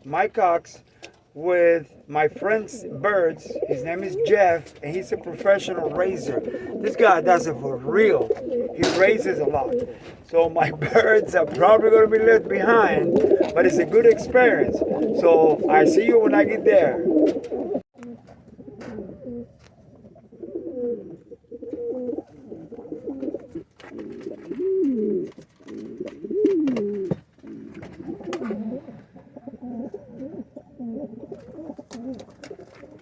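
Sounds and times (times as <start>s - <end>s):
pigeons cooing: 1.4s - 33.0s.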